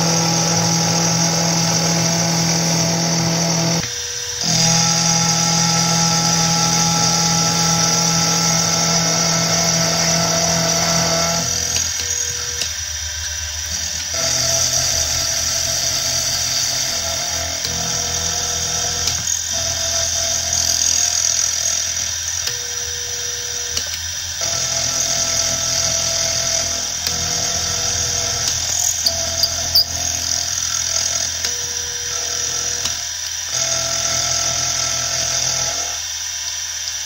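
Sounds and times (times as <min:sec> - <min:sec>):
milling machine cutting metal: 0:00.0 - 0:37.0.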